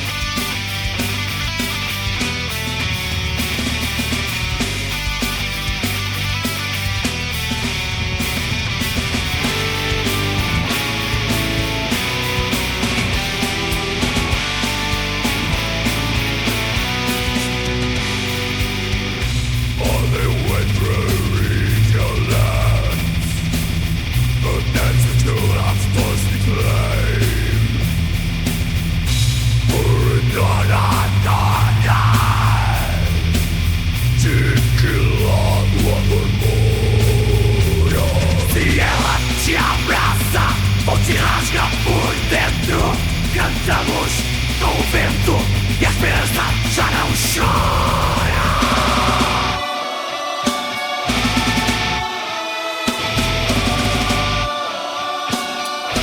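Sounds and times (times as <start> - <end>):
metal band playing: 0.0 - 56.0.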